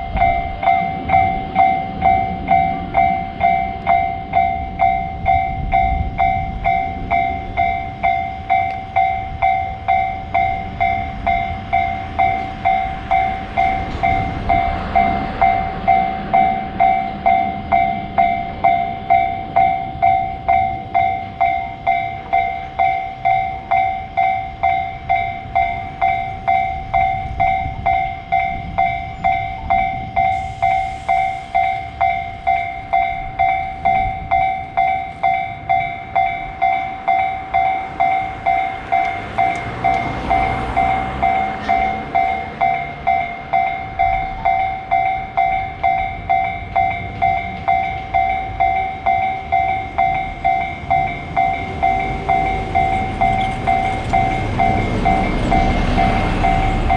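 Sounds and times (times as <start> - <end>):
level crossing bell ringing: 0.0 - 56.9
train rumbling past: 0.0 - 56.9.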